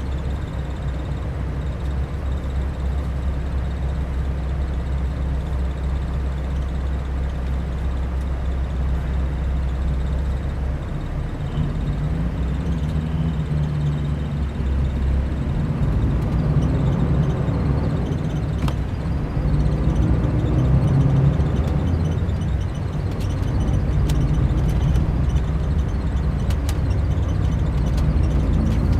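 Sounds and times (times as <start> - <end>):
diesel coach engine running: 0.0 - 28.9.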